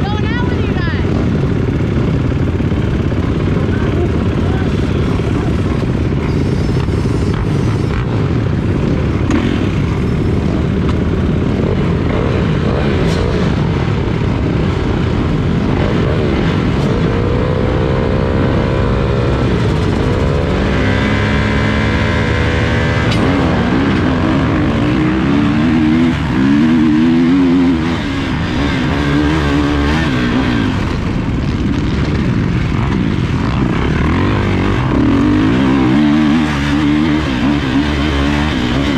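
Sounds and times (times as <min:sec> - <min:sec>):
dirt bikes revving: 0:00.0 - 0:38.9
dirt bike accelerating through gears: 0:00.9 - 0:38.9.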